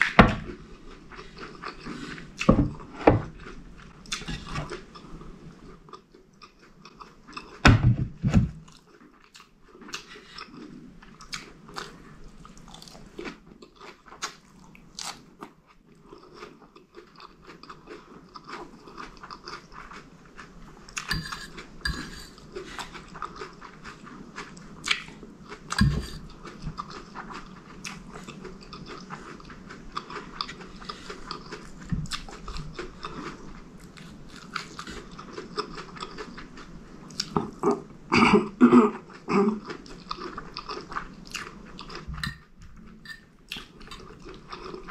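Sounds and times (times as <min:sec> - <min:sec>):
chewing and crunching: 0:00.0 - 0:07.6, 0:08.6 - 0:37.9, 0:39.0 - 0:44.9.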